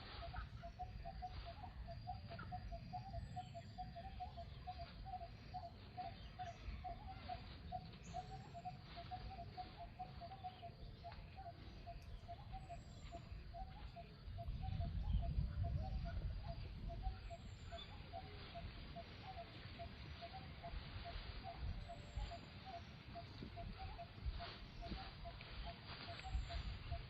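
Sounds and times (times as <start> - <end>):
bird chirps: 0.0 - 27.0.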